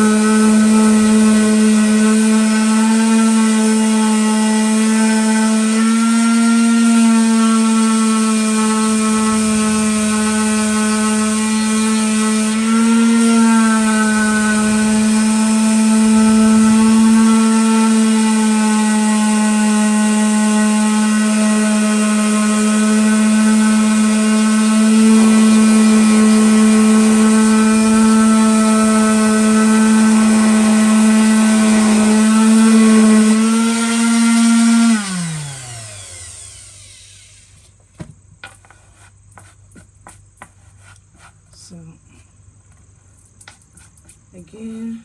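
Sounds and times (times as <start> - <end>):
electric sander whining: 0.0 - 37.8.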